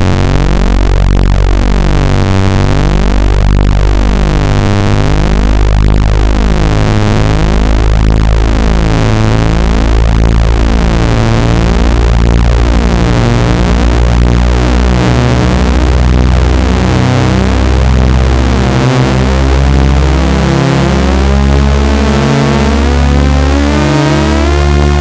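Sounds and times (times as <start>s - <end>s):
low electronic buzz tone: 0.0s - 25.0s.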